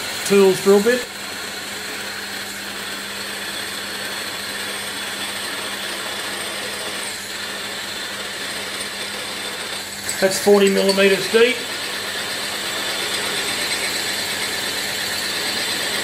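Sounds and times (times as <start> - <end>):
drill bit cutting metal: 0.0 - 16.0
milling machine hum: 0.0 - 16.0.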